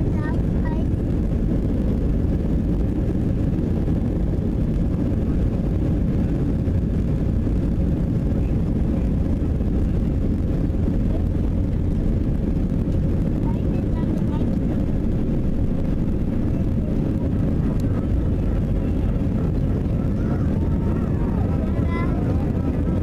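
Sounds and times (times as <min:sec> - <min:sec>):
aircraft engines rumbling: 0:00.0 - 0:23.0.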